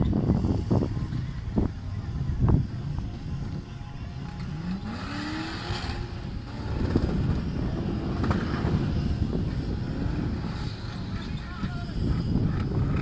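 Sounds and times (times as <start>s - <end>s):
wind rumble on microphone: 0.0s - 13.0s
vehicle engine revving: 0.3s - 13.0s.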